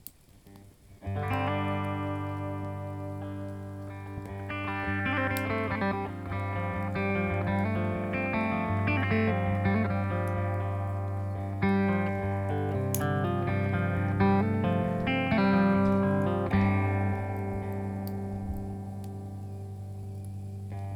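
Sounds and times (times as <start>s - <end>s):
picked guitar melody: 0.4s - 20.9s
low guitar drone note: 1.1s - 20.9s.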